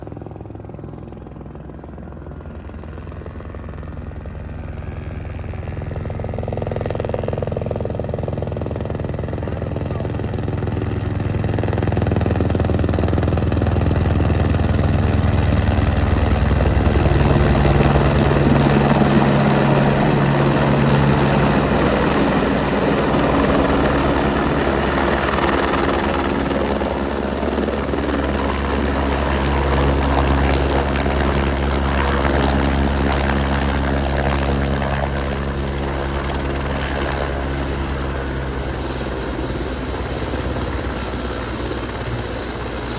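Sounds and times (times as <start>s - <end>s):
helicopter turbine and rotor drone: 0.0s - 42.9s.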